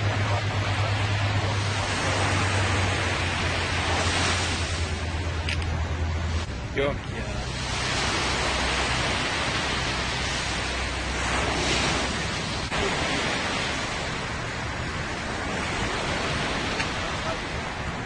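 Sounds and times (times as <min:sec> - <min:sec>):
sea: 0:00.0 - 0:18.0
wind: 0:00.0 - 0:18.0
wind buffeting microphone: 0:00.0 - 0:18.0.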